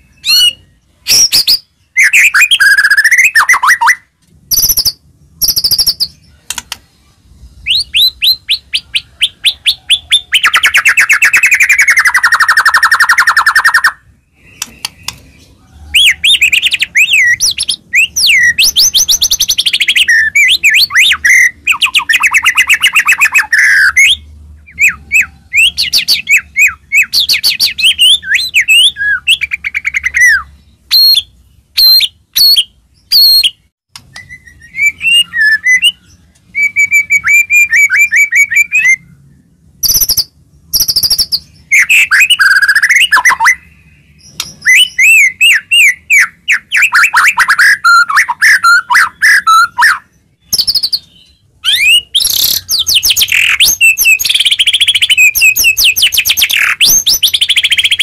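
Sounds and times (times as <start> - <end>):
songbird singing trills and whistles: 0.0 - 58.0.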